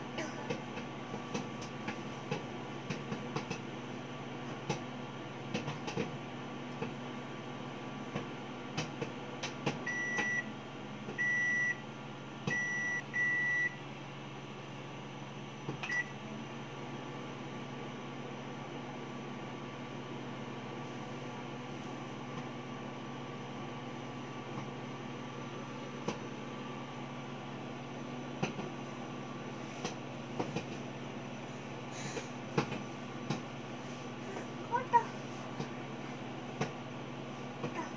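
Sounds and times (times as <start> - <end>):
microwave oven beeping: 0.0 - 33.8
oven humming: 0.0 - 37.9.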